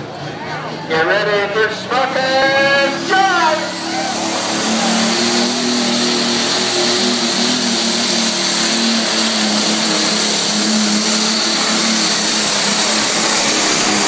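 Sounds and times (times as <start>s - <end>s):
diesel tractor engine under load: 0.0s - 14.0s
high turbo whine: 0.0s - 14.0s.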